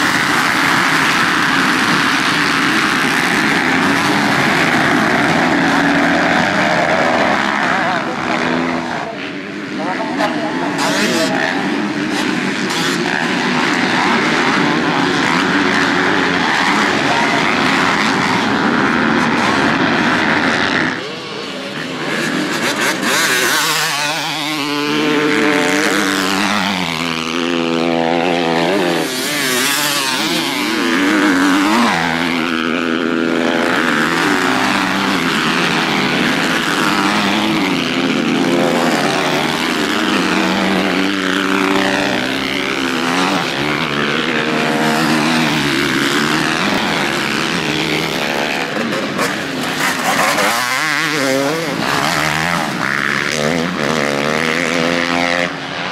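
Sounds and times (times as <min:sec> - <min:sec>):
motocross bike engines revving: 0:00.0 - 0:55.9.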